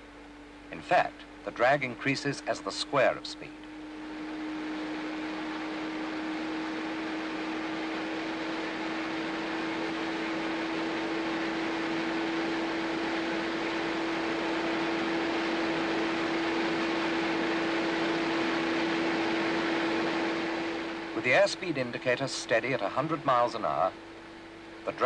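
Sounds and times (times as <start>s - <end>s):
wind tunnel hum: 1.1s - 24.0s.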